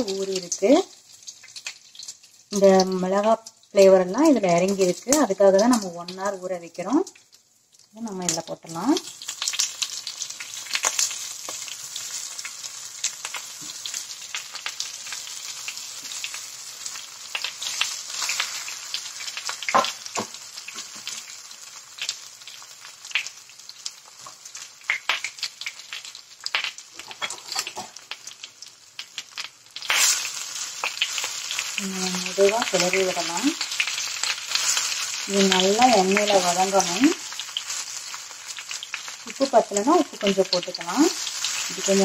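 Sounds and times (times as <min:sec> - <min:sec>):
slices sizzling in hot oil: 0:00.0 - 0:42.0.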